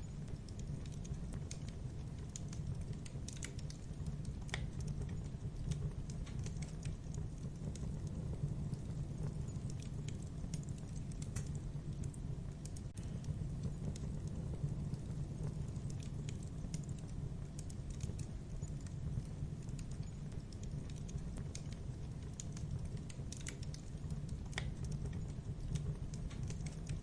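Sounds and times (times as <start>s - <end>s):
logs crackling in fireplace: 0.0s - 27.0s.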